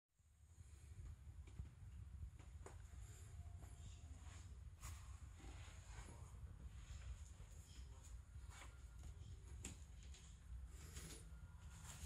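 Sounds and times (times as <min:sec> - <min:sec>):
low room hum: 0:00.2 - 0:12.0
faint soft rustle: 0:02.3 - 0:12.0.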